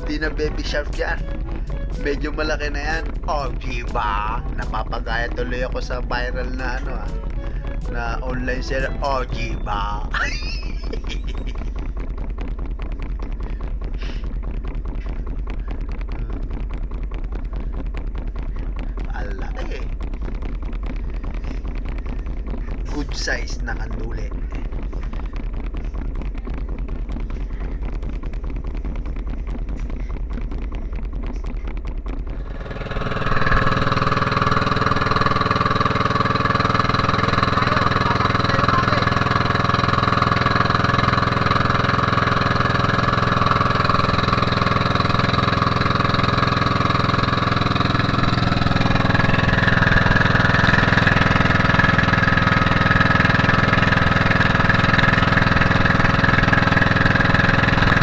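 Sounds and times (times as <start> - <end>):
low rumble: 0.0 - 58.0
small boat engine running: 0.0 - 58.0.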